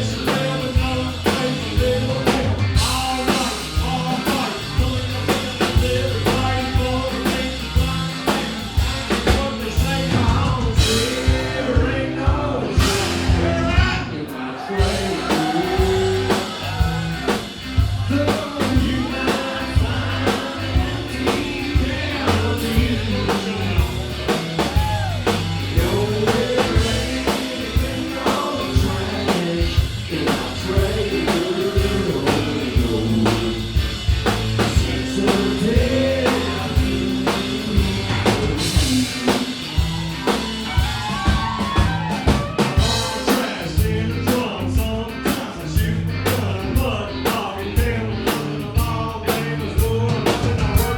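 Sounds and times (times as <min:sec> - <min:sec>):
person singing: 0:00.0 - 0:34.0, 0:34.6 - 0:50.9
bass guitar: 0:00.0 - 0:50.9
drum kit: 0:00.0 - 0:50.9.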